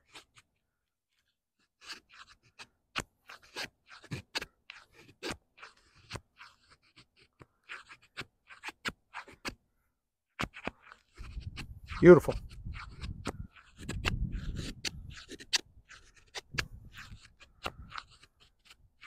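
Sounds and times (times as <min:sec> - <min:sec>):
knife scraping wood: 0:00.0 - 0:09.6, 0:10.4 - 0:19.0.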